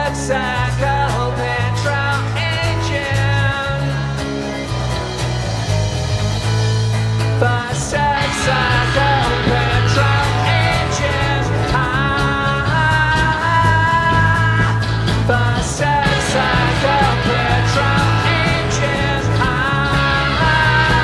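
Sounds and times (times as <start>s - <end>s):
bass notes: 0.0s - 21.0s
bending guitar line: 0.0s - 21.0s.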